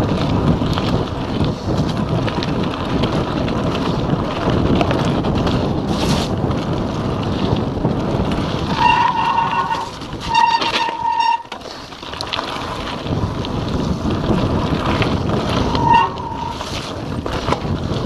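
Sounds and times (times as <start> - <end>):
bike rattle: 0.0 - 18.0
bike tyre rumble: 0.0 - 18.0
wind buffeting microphone: 0.0 - 18.0.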